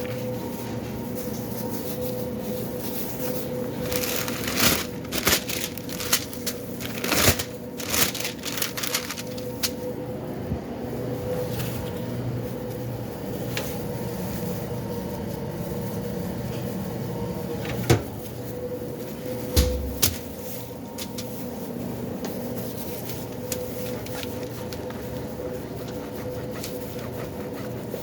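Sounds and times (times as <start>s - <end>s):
kitchen equipment humming: 0.0s - 28.0s.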